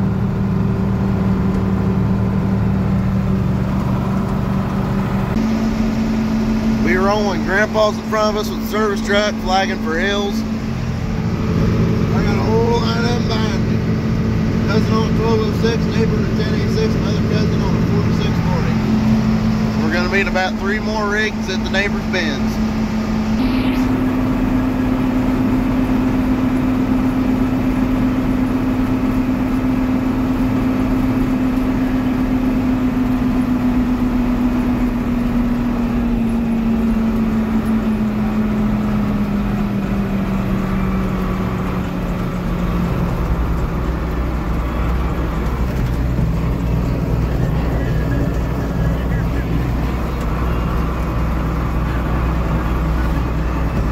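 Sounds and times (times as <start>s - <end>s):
tractor diesel engine droning: 0.0s - 53.9s.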